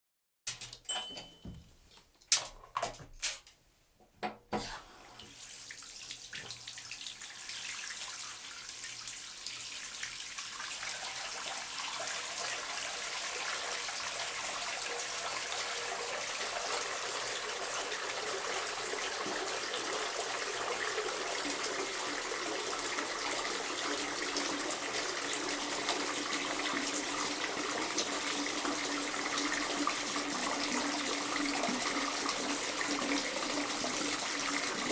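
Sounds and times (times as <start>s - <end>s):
water running into bathtub: 4.5s - 34.9s.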